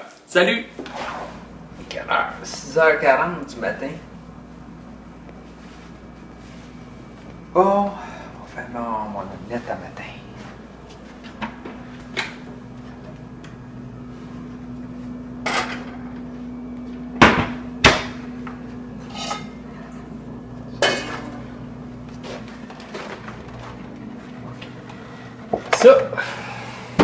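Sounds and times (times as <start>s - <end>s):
steady low hum: 0.3s - 27.0s.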